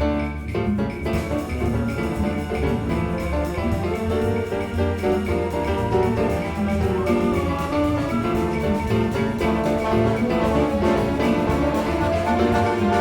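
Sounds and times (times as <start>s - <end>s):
orchestra playing samba: 0.0s - 13.0s
piano: 0.0s - 13.0s
walking bass line: 0.0s - 13.0s.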